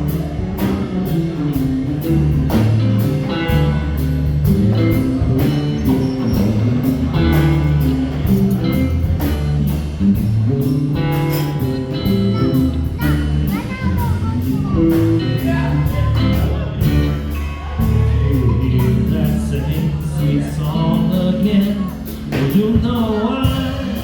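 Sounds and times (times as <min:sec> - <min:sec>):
instrumental band music: 0:00.0 - 0:24.0.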